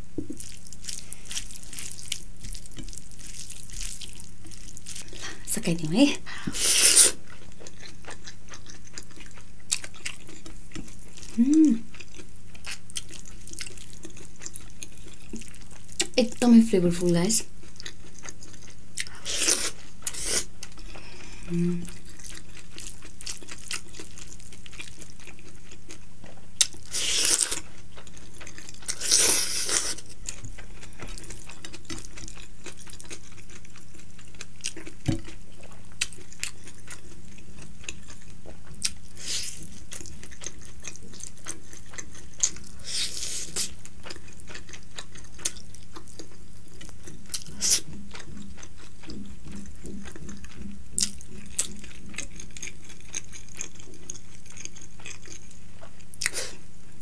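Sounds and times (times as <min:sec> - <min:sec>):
steady low hum: 0:00.0 - 0:57.0
wet chewing and mouth sounds: 0:00.1 - 0:16.5, 0:17.4 - 0:56.6.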